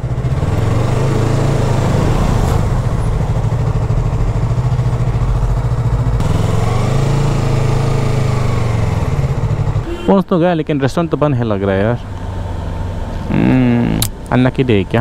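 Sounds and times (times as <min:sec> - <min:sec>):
motorcycle engine revving: 0:00.0 - 0:10.2, 0:11.8 - 0:15.0.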